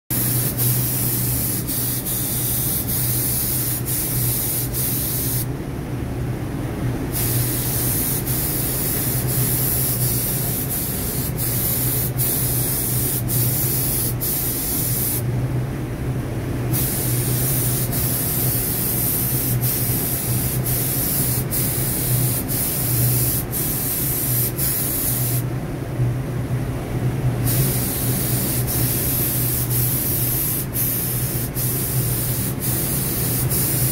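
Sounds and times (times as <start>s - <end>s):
paint spray gun hissing: 0.1s - 5.5s, 7.2s - 15.2s, 16.8s - 25.4s, 27.5s - 33.9s
steady low hum: 0.1s - 33.9s.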